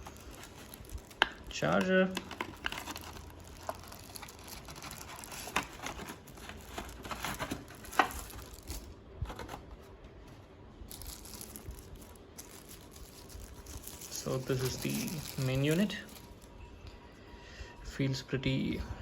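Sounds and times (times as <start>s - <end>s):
packaging crinkling and rustling: 0.0s - 16.6s.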